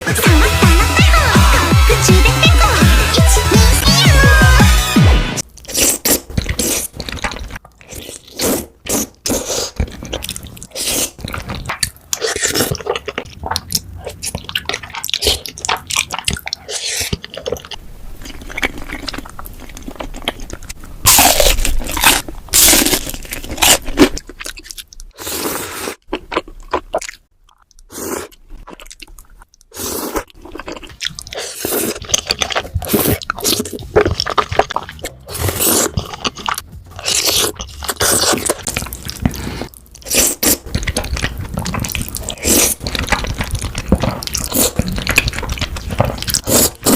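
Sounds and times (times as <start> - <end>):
chewing and biting food: 5.4 - 46.9
wet mouth sounds: 5.4 - 46.9.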